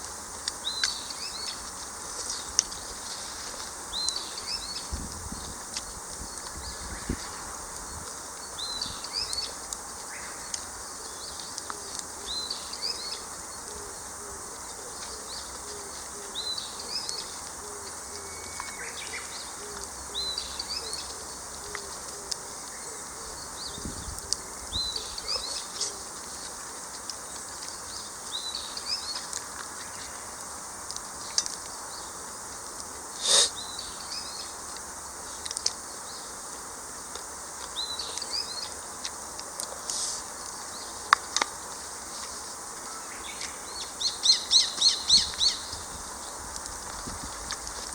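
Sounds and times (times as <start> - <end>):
songbirds singing: 0.0 - 47.9
steady outdoor hiss: 0.0 - 47.9.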